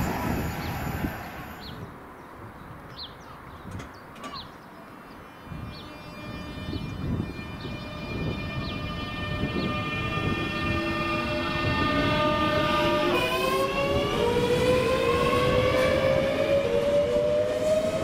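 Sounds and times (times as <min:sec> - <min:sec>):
electric train whine: 0:00.0 - 0:01.9, 0:05.4 - 0:18.0.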